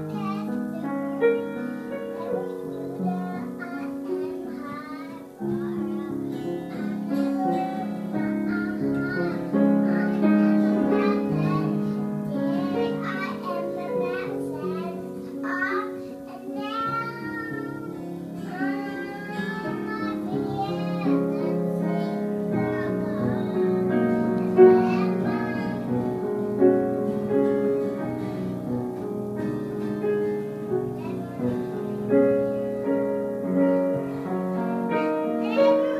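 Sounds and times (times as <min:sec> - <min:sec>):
child singing: 0:00.0 - 0:26.6, 0:27.2 - 0:28.3, 0:30.0 - 0:34.3, 0:34.9 - 0:35.9
grand piano playing: 0:00.0 - 0:35.9.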